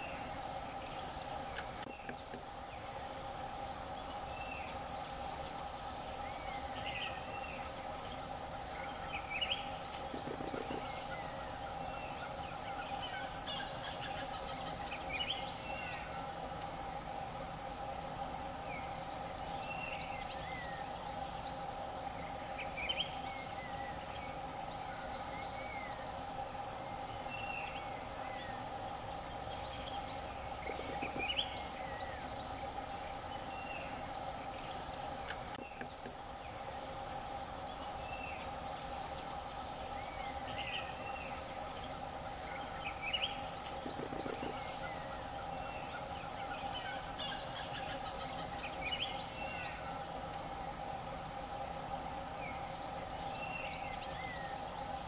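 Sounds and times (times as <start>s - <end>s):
steady droning hum: 0.0s - 55.0s.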